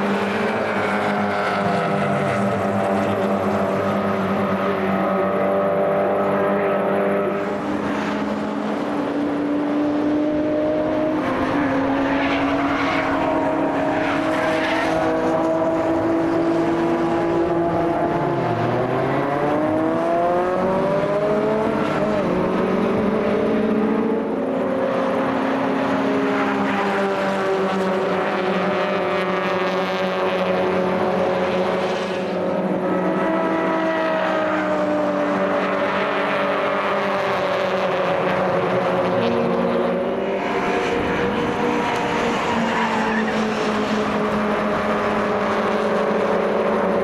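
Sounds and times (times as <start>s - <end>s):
racing car engines: 0.0s - 47.0s.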